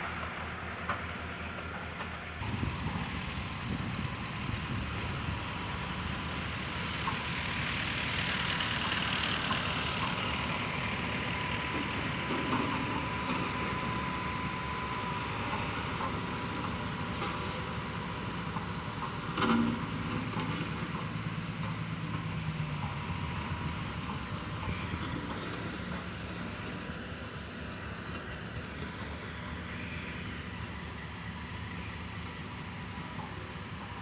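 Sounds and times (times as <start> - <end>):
construction machinery rumbling: 0.0 - 34.0.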